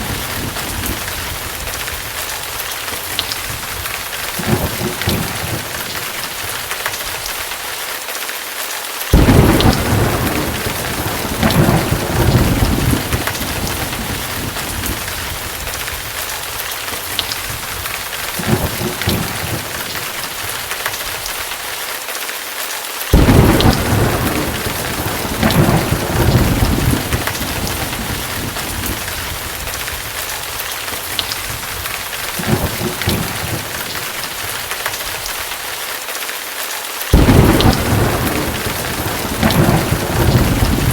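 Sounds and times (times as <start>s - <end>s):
rolling thunder: 0.0s - 6.5s, 9.1s - 20.6s, 23.1s - 35.3s, 37.1s - 40.9s
loud thunderclaps: 0.0s - 7.2s, 9.1s - 21.2s, 23.1s - 35.4s, 37.1s - 40.9s
steady rain hiss: 0.0s - 40.9s.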